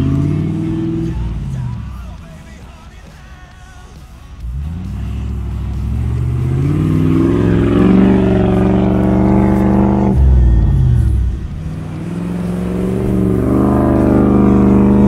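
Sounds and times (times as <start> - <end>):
engine revving: 0.0 - 2.2, 4.4 - 15.0.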